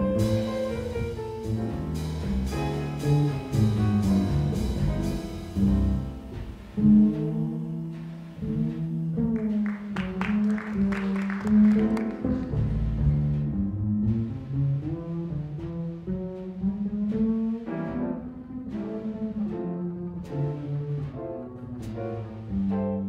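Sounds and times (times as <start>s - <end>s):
jazz trio playing: 0.0s - 23.0s.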